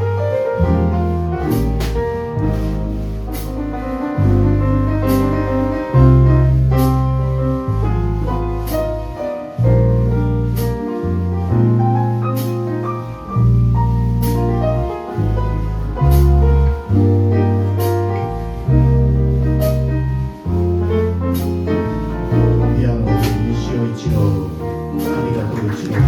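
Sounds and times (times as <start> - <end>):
jazz piano chords: 0.0 - 26.0.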